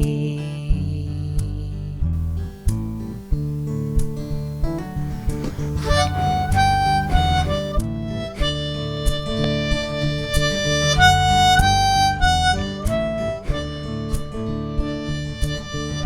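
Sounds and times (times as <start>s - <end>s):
strummed acoustic guitar: 0.0s - 16.0s
harmonica melody: 2.7s - 16.0s.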